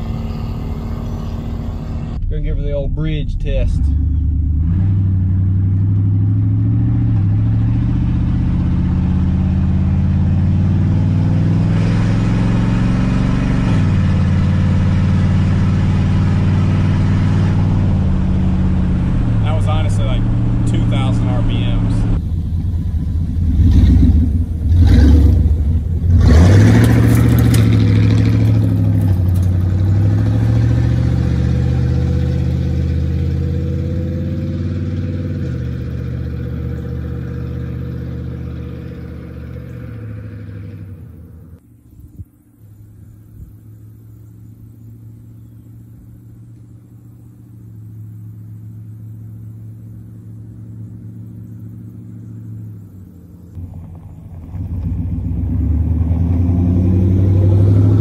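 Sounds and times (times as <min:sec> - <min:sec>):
car engine revving: 0:00.0 - 0:41.6, 0:43.0 - 0:58.0
low engine rumble: 0:00.0 - 0:58.0.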